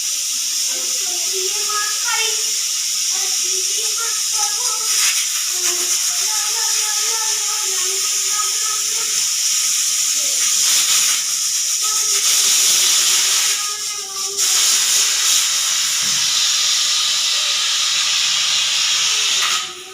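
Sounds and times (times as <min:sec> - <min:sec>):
pressure cooker whistle hissing steam: 0:00.0 - 0:19.9.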